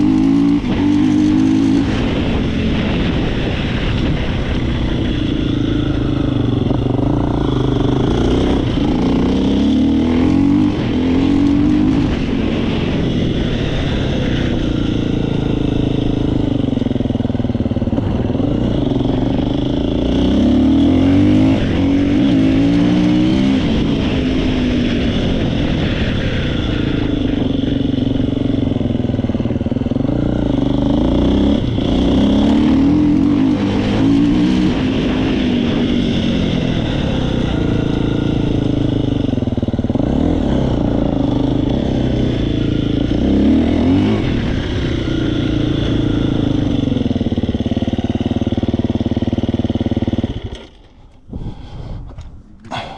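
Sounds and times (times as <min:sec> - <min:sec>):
engine rattling: 0:00.0 - 0:52.9
motorcycle engine revving and idling: 0:00.0 - 0:52.9.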